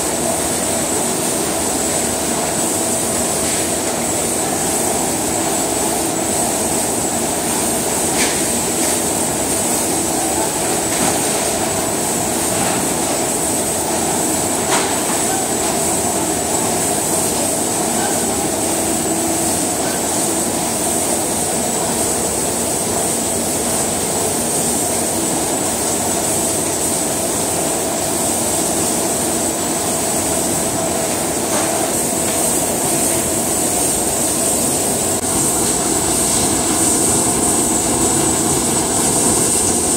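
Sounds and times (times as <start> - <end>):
processing plant machinery din: 0.0 - 39.9.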